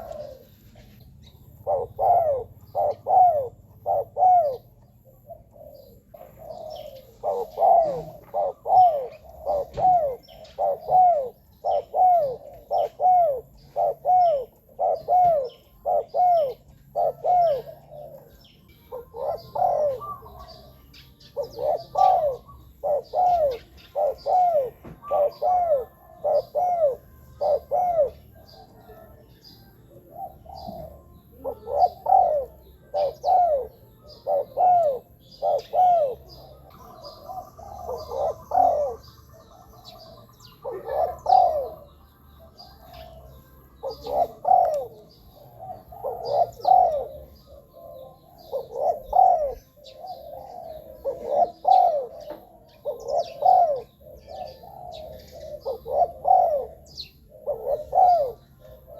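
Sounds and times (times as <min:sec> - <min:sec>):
dove cooing: 0:00.0 - 0:58.9
small birds chirping: 0:00.0 - 0:58.9.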